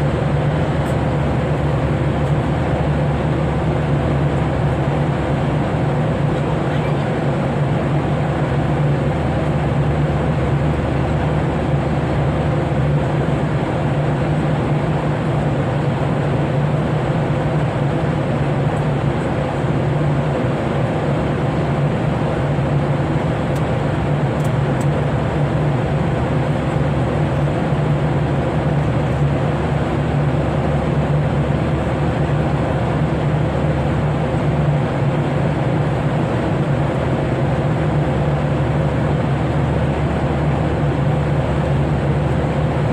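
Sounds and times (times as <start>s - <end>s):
constant low hum: 0.0s - 42.9s
rush of air and engine noise: 0.0s - 42.9s.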